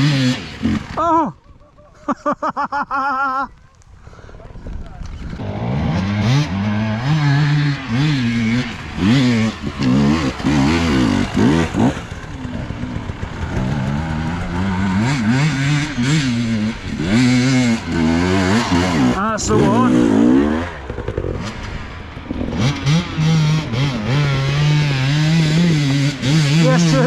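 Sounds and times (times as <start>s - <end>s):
motorcycle engine revving: 0.0s - 1.3s, 4.7s - 27.0s.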